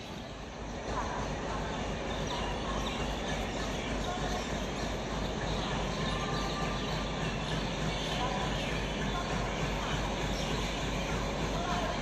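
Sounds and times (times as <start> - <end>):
distant voices: 0.0 - 12.0.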